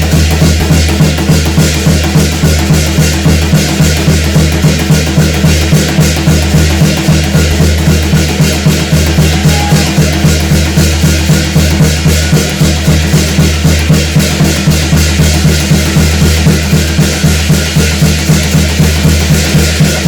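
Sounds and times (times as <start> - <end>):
drums beaten in steady rhythm: 0.0 - 20.0.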